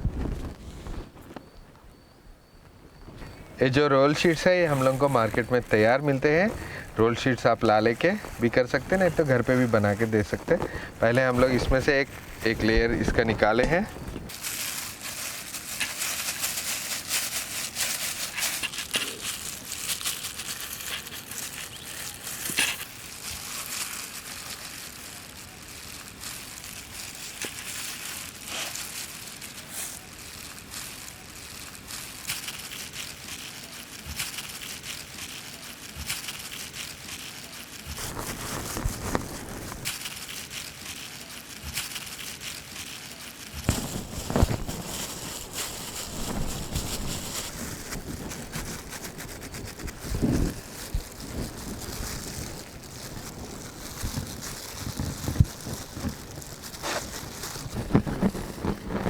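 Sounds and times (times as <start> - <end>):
pastry sheets crinkling and rustling: 0.0 - 1.5, 3.1 - 59.0.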